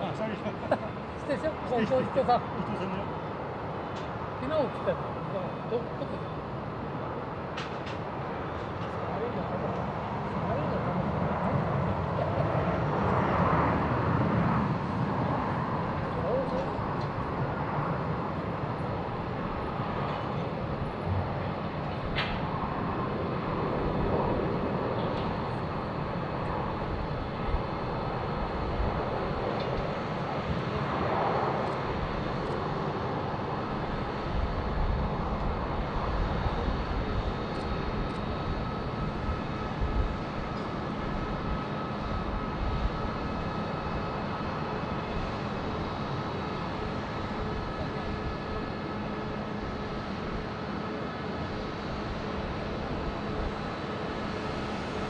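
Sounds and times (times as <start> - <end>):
jet engines running at low power: 0.0 - 55.0.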